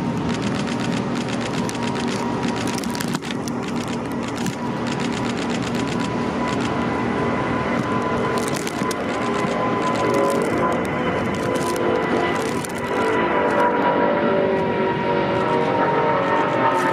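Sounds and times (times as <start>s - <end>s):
jet engine crackling: 0.0s - 16.9s
jet engine whine: 0.0s - 16.9s
jet engines rushing: 0.0s - 16.9s.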